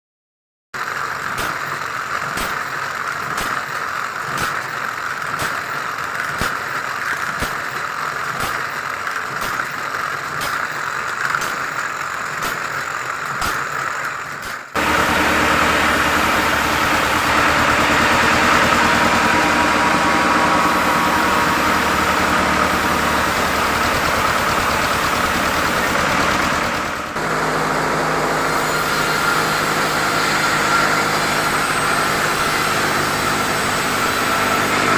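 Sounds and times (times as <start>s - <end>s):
sawmill machinery running: 0.8s - 34.9s.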